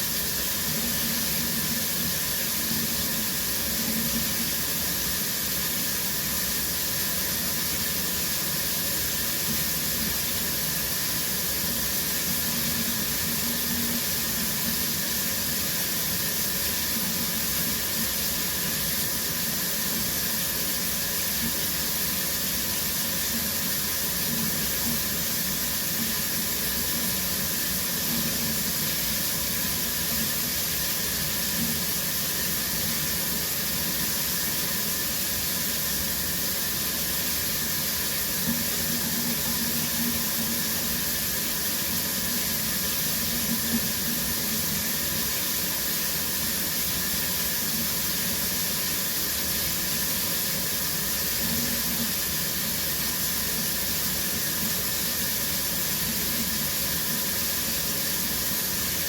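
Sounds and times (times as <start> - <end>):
shower spray hissing: 0.0 - 59.0.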